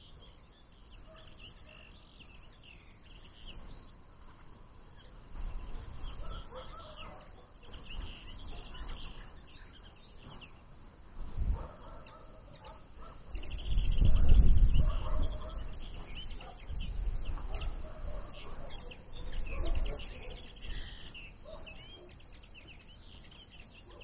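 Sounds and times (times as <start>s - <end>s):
songbirds chirping and twittering: 0.0s - 24.0s.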